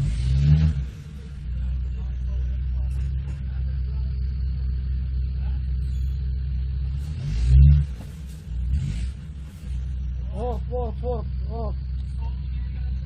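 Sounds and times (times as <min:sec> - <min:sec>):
engine running and revving: 0:00.0 - 0:13.0.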